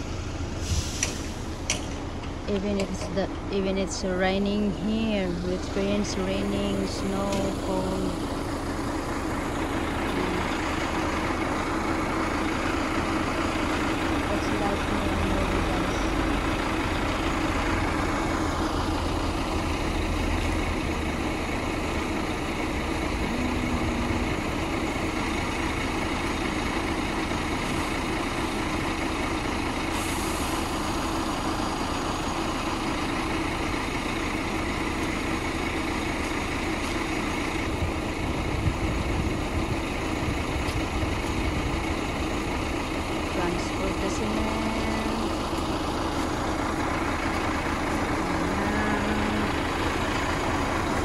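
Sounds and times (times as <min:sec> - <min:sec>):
heavy diesel engines running: 0:00.0 - 0:51.0.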